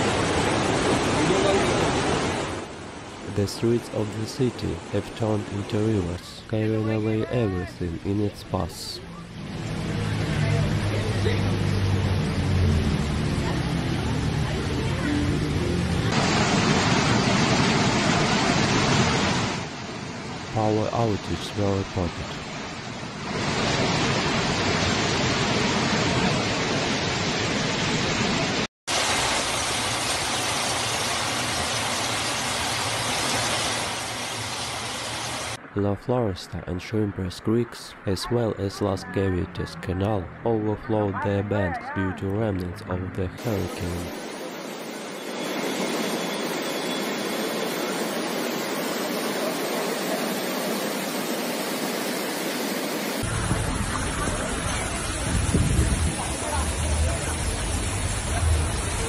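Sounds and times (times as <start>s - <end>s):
floodwater rushing in street: 0.0s - 36.3s, 42.9s - 59.0s
heavy downpour: 0.0s - 36.3s, 47.8s - 59.0s.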